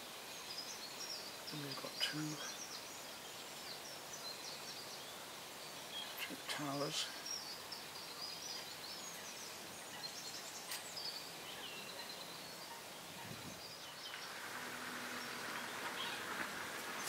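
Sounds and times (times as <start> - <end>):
birds chirping: 0.0 - 17.0
outdoor background hiss: 0.0 - 17.0.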